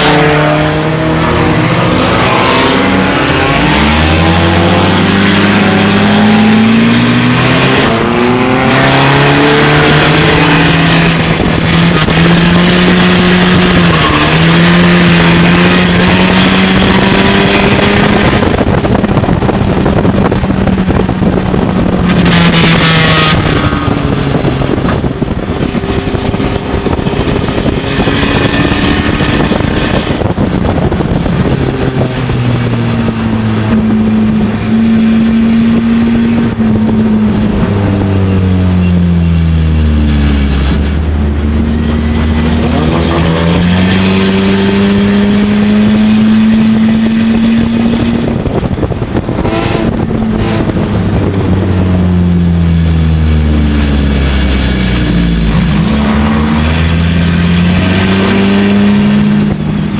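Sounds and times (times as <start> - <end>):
race car engine running hard: 0.0 - 59.9
wind rush: 0.0 - 59.9.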